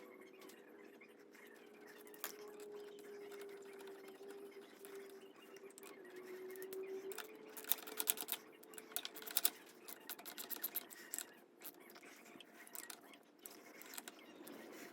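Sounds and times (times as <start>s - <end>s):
clicks taps and scrapes of hand work: 1.8s - 14.9s.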